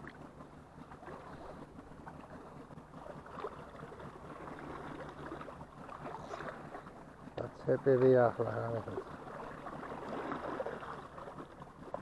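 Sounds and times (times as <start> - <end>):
sea waves washing on shore: 0.9 - 12.0.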